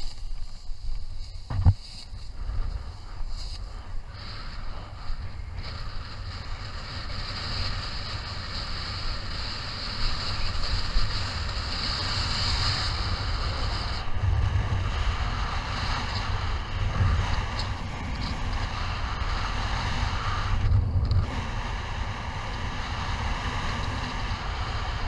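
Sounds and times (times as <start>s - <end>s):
gusty wind on microphone: 0.0s - 25.0s.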